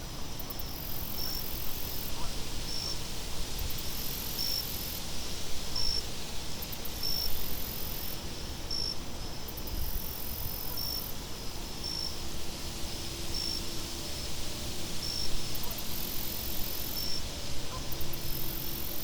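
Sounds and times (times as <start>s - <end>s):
crickets chirping: 0.0s - 5.0s, 5.8s - 19.0s
low wind: 0.0s - 19.0s.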